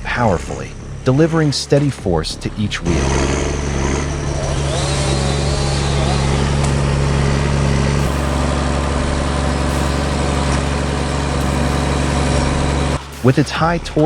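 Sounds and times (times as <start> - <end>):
diesel engine droning: 0.1 - 14.0.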